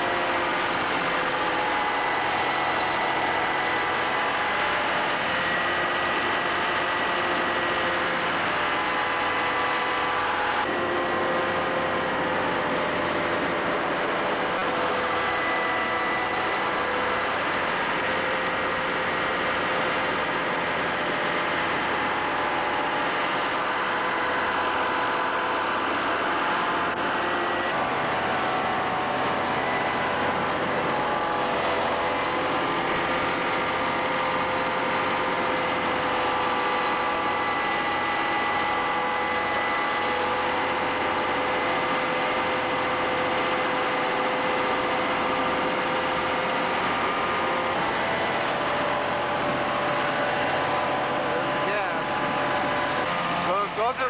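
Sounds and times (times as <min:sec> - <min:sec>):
vacuum excavator whining: 0:00.0 - 0:54.0.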